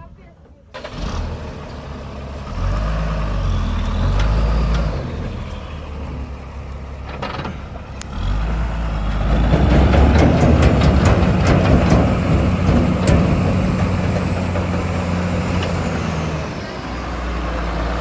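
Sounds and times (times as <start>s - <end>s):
heavy vehicle engine under load: 0.8s - 18.0s.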